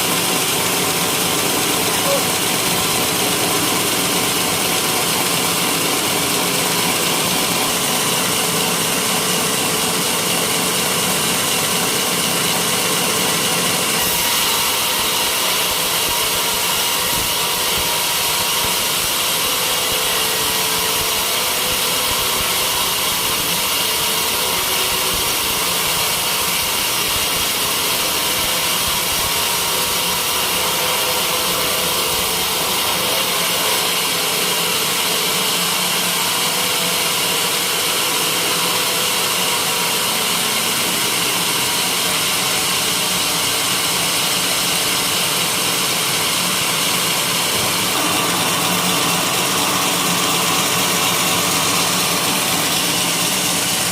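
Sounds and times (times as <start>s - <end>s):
sawmill machine running: 0.0s - 53.9s.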